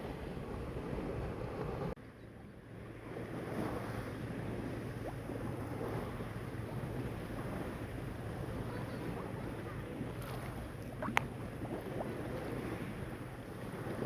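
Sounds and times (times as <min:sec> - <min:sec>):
wind on microphone: 0:00.0 - 0:14.0
sea water washing: 0:02.6 - 0:14.0.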